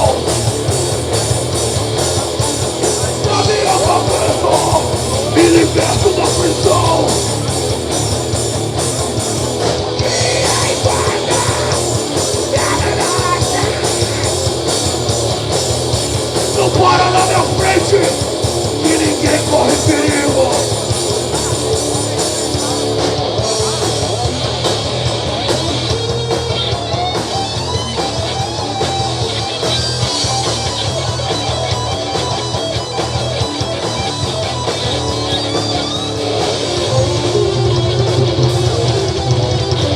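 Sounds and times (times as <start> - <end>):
electric guitar: 0.0 - 39.9
steady drum beat: 0.0 - 39.9.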